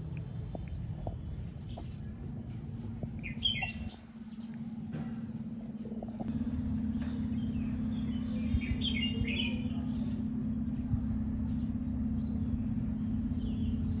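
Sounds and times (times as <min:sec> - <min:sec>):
small birds chirping: 0:00.0 - 0:04.7, 0:06.9 - 0:14.0
steady low hum: 0:00.0 - 0:14.0.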